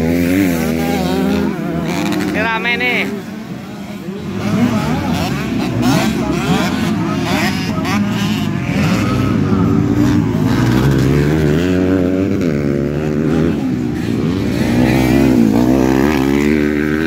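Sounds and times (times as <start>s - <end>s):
dirt bike engines revving: 0.0s - 17.0s
dirt bike passing close: 0.0s - 17.0s.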